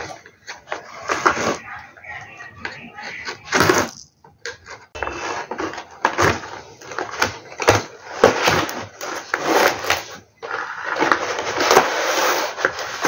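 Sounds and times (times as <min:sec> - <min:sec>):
cardboard packaging scraping and rustling: 0:00.0 - 0:04.0, 0:04.6 - 0:13.0.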